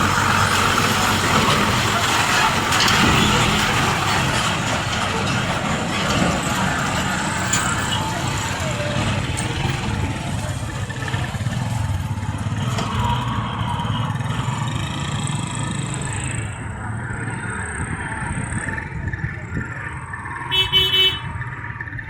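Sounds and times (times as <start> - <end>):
road traffic engines: 0.0 - 22.0.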